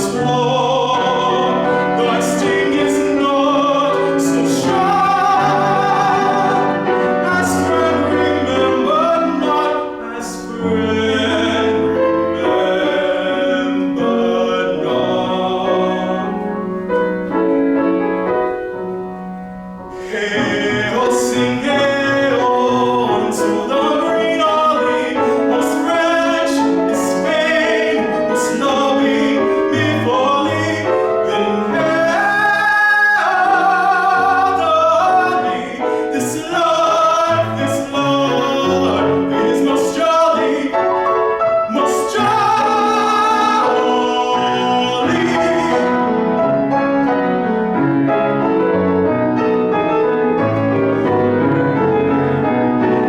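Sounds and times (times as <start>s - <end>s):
trained singer with vibrato: 0.0s - 16.9s, 19.9s - 46.7s
piano accompaniment: 0.0s - 53.0s.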